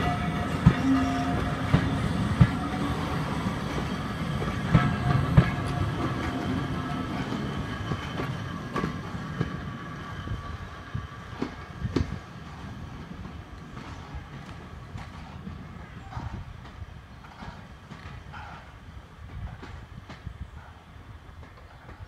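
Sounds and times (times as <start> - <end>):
train wheels clattering over rail joints: 0.0 - 22.0.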